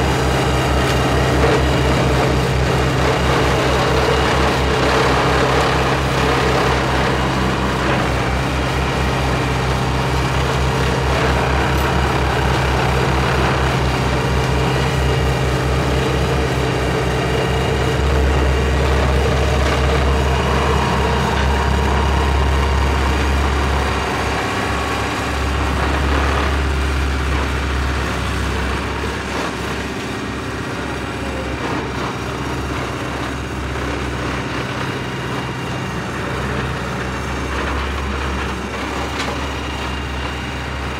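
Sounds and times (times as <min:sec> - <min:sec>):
deep vibration hum: 0:00.0 - 0:40.9
roller engine droning: 0:00.0 - 0:40.9.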